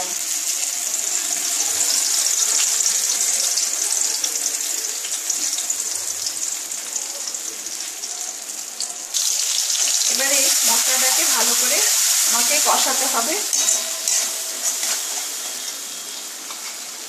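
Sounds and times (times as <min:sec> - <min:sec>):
paste sizzling in hot oil: 0:00.0 - 0:17.0.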